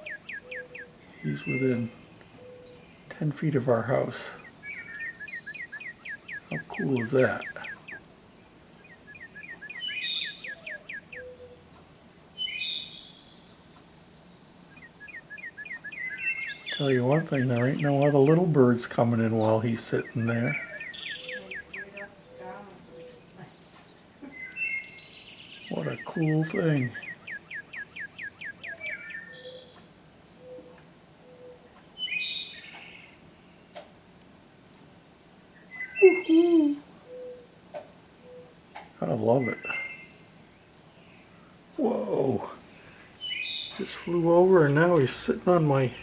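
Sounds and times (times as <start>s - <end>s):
down-slurred bird chirping: 0.0s - 34.0s, 34.7s - 46.0s
harsh bird calls: 0.0s - 34.0s, 35.5s - 46.0s.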